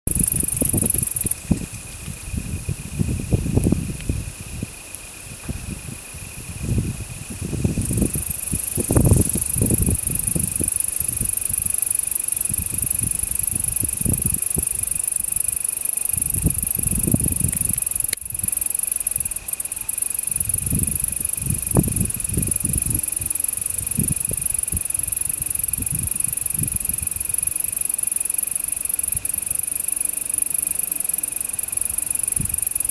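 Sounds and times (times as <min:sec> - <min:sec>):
katydid high-pitched buzz: 0:00.1 - 0:01.4, 0:07.8 - 0:32.9.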